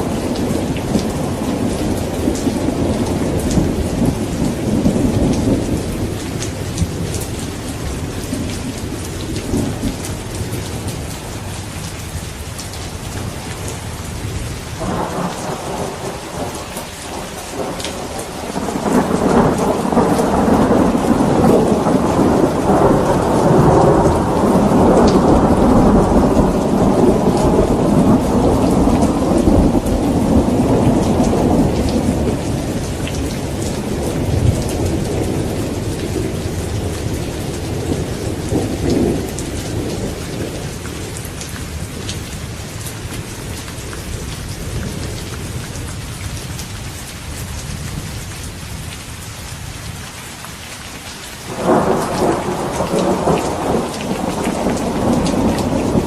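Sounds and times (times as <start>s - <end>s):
rolling thunder rumble: 0.0s - 11.6s, 12.6s - 43.5s, 51.5s - 56.0s
steady rain: 0.0s - 56.0s.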